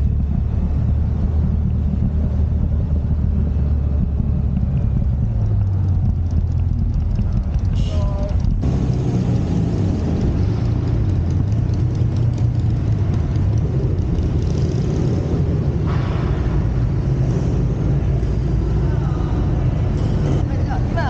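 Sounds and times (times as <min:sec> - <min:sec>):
motor engine rumbling: 0:00.0 - 0:21.0.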